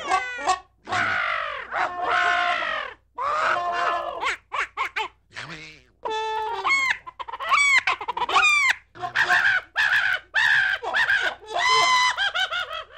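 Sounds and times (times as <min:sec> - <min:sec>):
high-pitched animal calls: 0:00.0 - 0:12.9.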